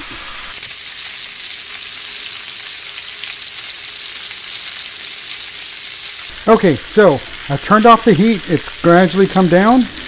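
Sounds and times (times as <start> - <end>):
chicken frying in hot fat: 0.0 - 10.0.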